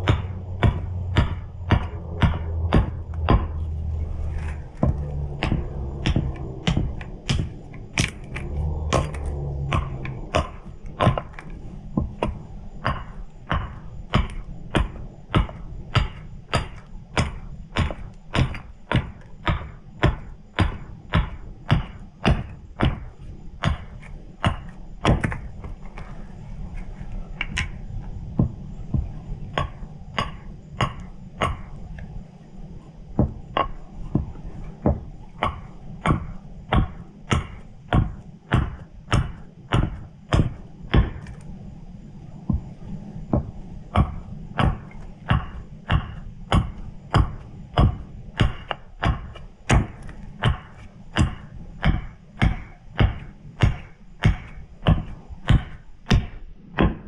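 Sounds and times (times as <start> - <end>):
hatchet chopping wood: 0.0 - 25.7, 28.4 - 31.7, 33.2 - 41.4, 44.0 - 57.0.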